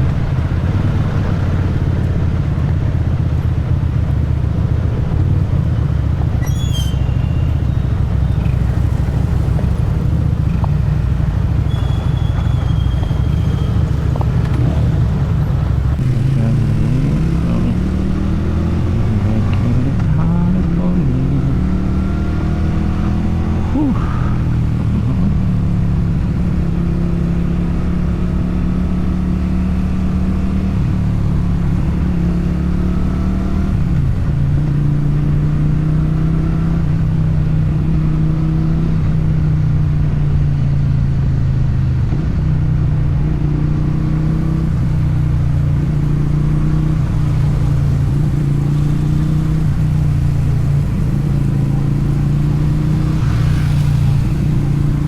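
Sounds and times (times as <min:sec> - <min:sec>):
motorcycle engine running: 0:00.0 - 0:21.6, 0:23.4 - 0:55.0.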